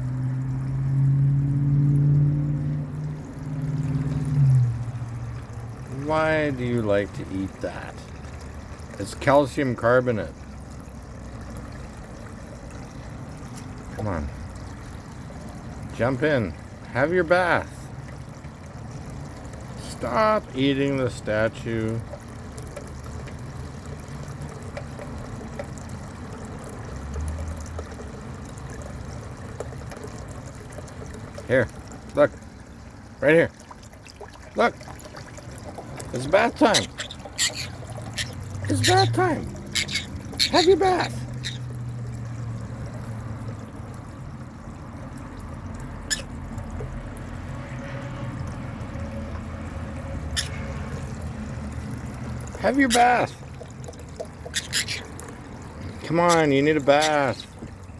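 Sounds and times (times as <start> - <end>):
water trickling: 0.0 - 57.9.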